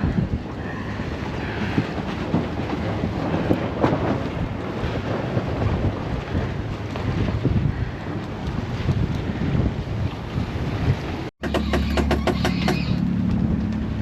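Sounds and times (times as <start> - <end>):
gusty wind buffeting microphone: 0.0 - 11.4.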